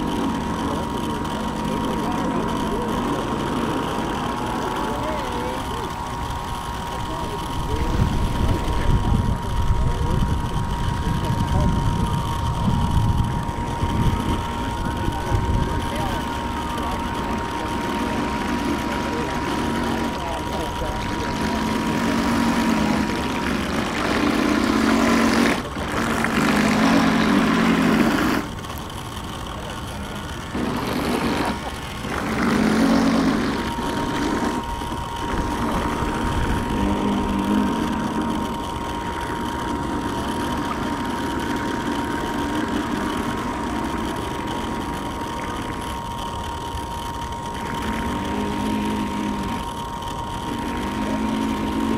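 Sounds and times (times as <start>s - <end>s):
model boat engine running: 0.0s - 51.9s.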